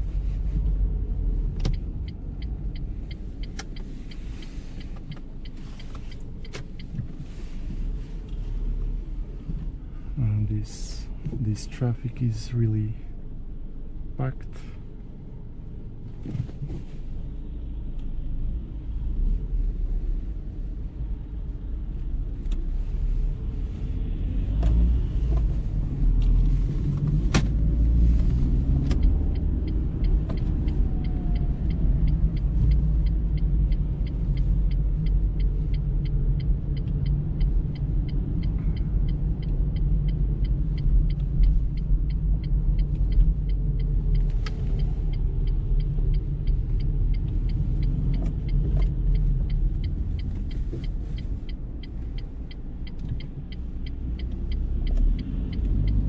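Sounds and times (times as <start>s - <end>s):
car engine and road rumble: 0.0s - 56.0s
light regular ticking: 0.4s - 16.0s, 24.7s - 56.0s.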